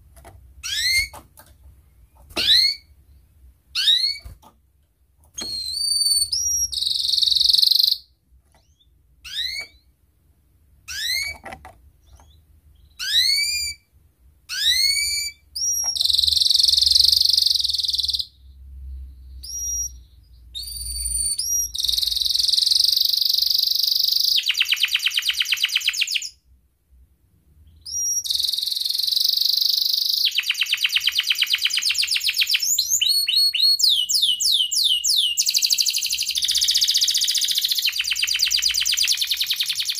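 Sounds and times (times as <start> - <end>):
canary singing: 0.6 - 1.3, 1.9 - 4.5, 5.3 - 10.0, 10.8 - 13.9, 14.5 - 26.4, 27.6 - 39.9.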